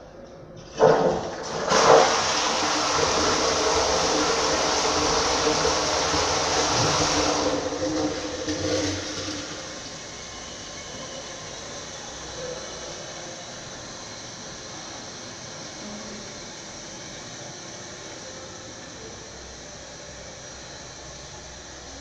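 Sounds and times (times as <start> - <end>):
toilet flushing: 0.6 - 22.0.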